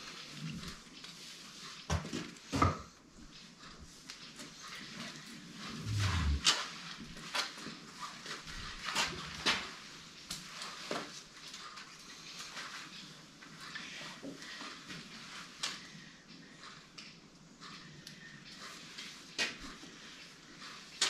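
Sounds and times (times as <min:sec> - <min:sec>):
hooves on hard floor: 0:00.0 - 0:21.0.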